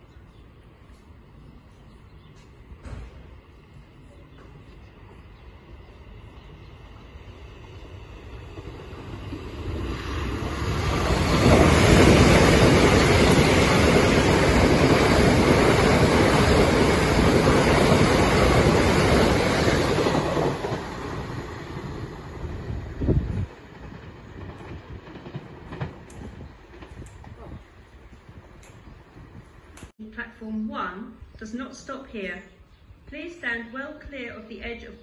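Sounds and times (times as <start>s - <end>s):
passenger train passing: 0.0s - 29.9s.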